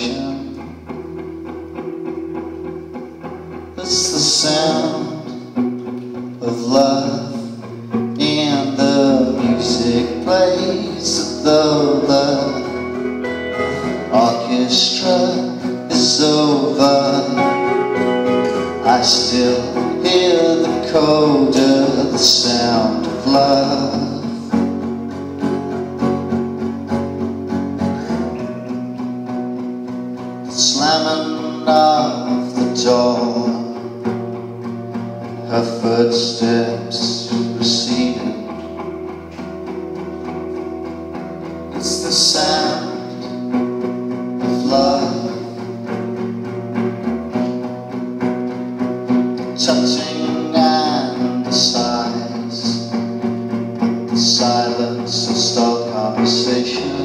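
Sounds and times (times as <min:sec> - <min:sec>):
acoustic guitar strumming: 0:00.0 - 0:57.0
electric guitar melody with bends: 0:00.0 - 0:57.0.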